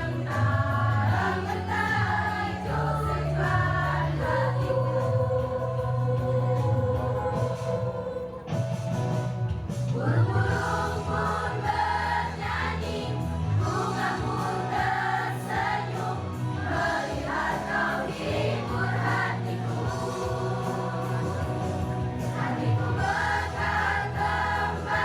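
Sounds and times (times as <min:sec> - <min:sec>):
choir singing: 0:00.0 - 0:08.6, 0:09.9 - 0:25.0.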